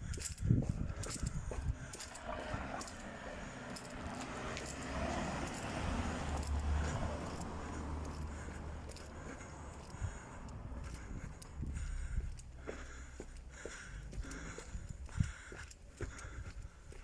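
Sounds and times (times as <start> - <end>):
motor vehicle passing: 0.0 - 16.6.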